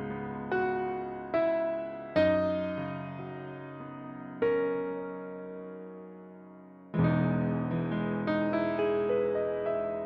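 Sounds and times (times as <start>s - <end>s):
soft piano-like chords: 0.0s - 10.0s.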